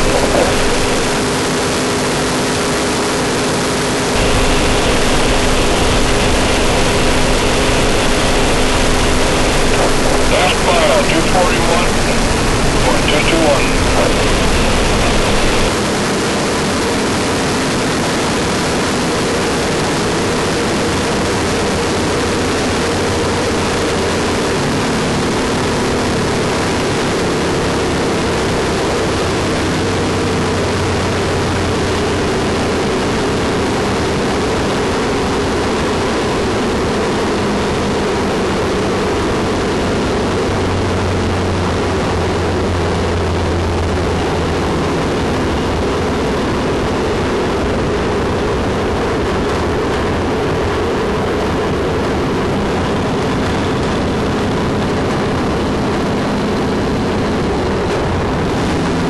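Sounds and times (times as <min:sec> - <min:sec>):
engine and wind rush: 0:00.0 - 0:59.0.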